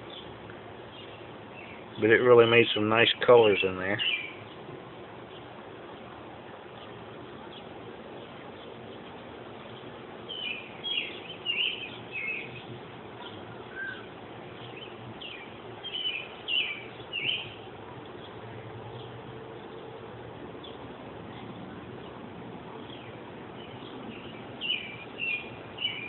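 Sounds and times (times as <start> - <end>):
small birds chirping: 0.0 - 26.0
steady background noise: 0.0 - 26.0.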